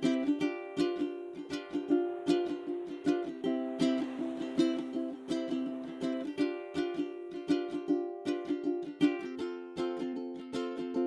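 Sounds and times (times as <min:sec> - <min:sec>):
plucked ukulele melody: 0:00.0 - 0:11.0.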